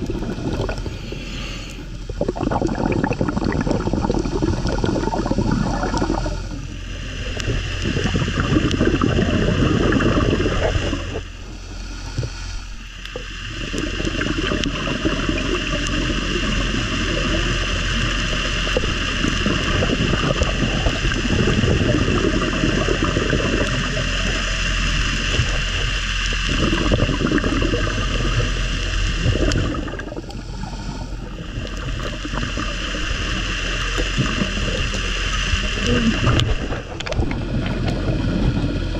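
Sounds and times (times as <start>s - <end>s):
constant low hum: 0.0s - 38.9s
underwater air bubbling: 0.0s - 38.9s.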